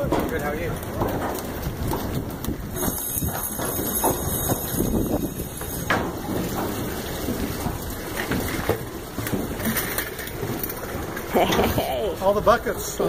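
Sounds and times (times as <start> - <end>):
footsteps on metal gangway: 0.0 - 13.0
steady rush of noise: 0.0 - 13.0.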